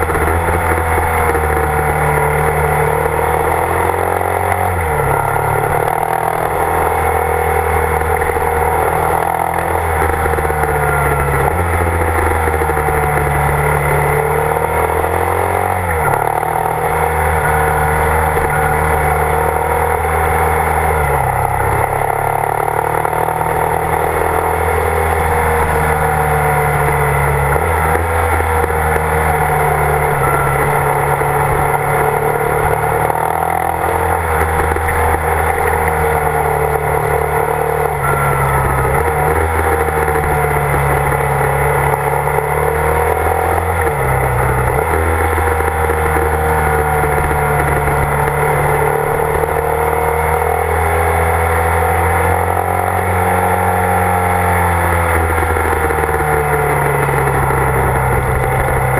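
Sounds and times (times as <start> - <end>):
motorcycle engine running: 0.0 - 58.9
road and wind noise: 0.0 - 58.9.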